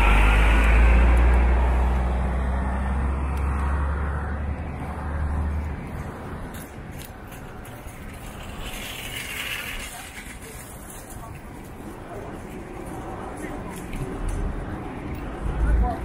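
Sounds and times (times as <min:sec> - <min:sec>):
engine deep rumble: 0:00.0 - 0:16.0
light traffic noise: 0:00.0 - 0:16.0.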